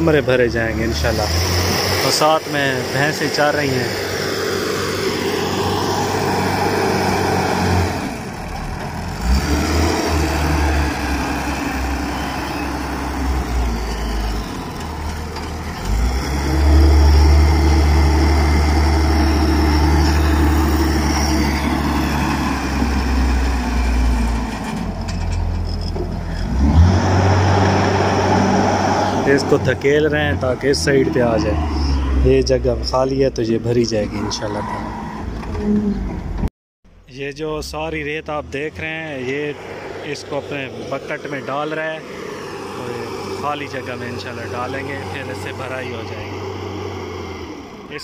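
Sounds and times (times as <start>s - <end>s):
wheel loader diesel engine: 0.0s - 48.0s.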